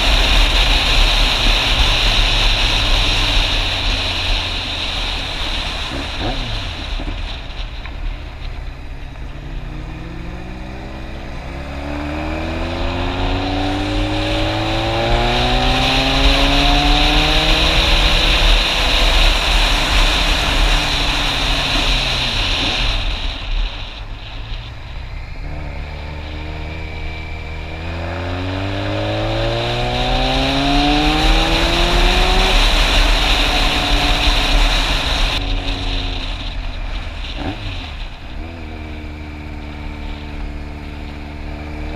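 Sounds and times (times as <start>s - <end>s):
wind rush over microphone: 0.0s - 38.8s
motorcycle engine accelerating: 0.0s - 41.9s.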